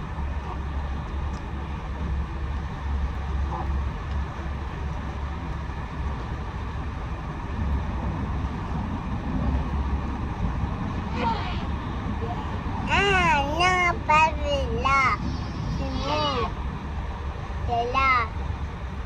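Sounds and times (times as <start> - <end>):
road noise hiss: 0.0 - 19.0
vehicle rumble: 0.0 - 19.0.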